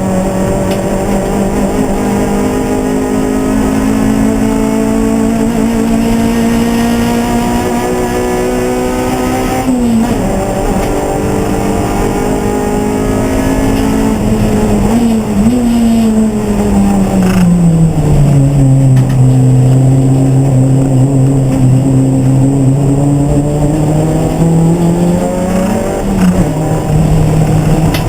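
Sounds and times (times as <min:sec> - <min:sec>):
race car engine under load: 0:00.0 - 0:28.0.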